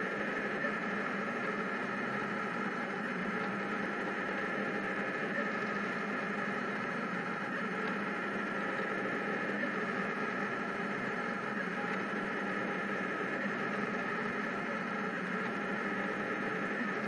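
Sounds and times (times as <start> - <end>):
printer motors and fans whirring: 0.0 - 17.0.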